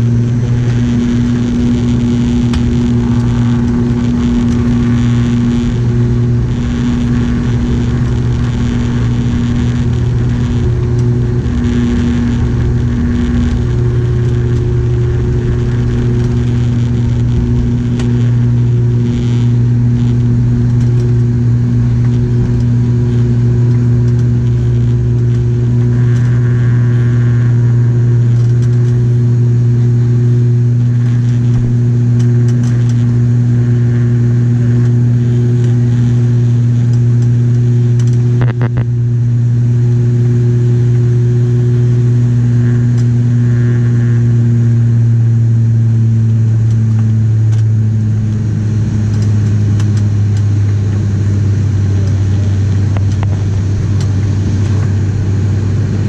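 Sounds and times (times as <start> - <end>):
low rumble: 0.0 - 56.0
propeller drone: 0.0 - 56.0.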